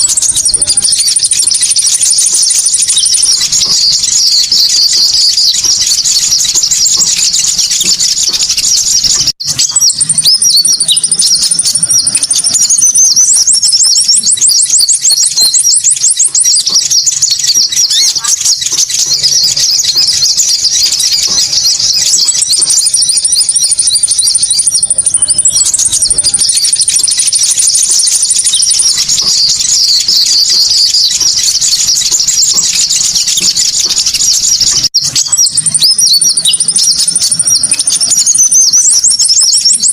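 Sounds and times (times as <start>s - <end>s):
birds twittering and trilling: 0.0s - 39.9s.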